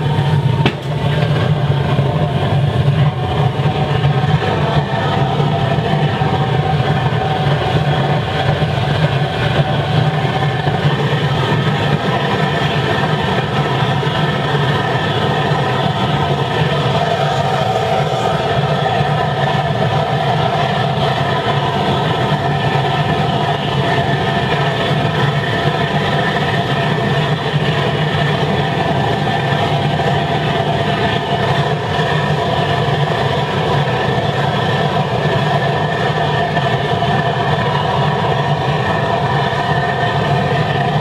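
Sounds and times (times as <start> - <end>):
constant hum: 0.0 - 41.0
roaring burner flame and air: 0.0 - 41.0.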